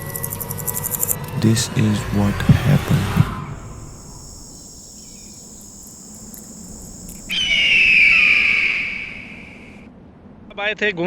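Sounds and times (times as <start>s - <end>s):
insects shrilling: 0.0s - 1.4s, 2.1s - 9.8s
low insect buzz: 0.0s - 1.4s, 2.1s - 9.8s.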